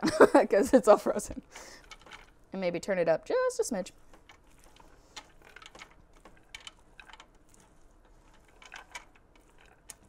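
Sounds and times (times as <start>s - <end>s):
spatula stirring corn in pot: 1.4s - 10.0s.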